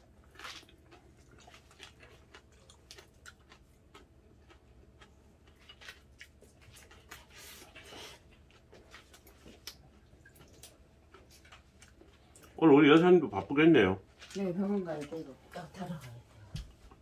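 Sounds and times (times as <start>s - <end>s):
light chewing: 0.0s - 17.0s.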